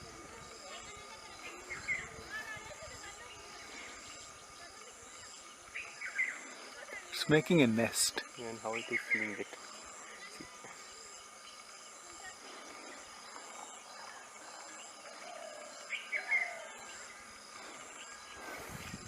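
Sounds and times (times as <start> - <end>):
bird chirping: 3.3 - 19.0.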